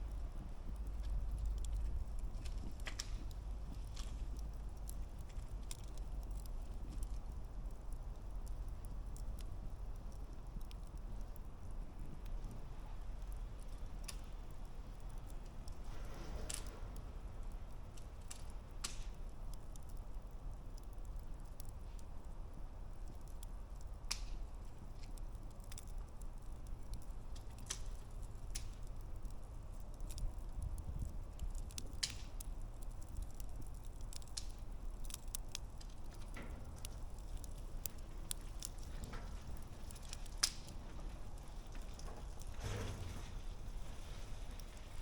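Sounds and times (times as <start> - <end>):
campfire crackling and popping: 0.0 - 45.0
low steady rumble: 0.0 - 45.0.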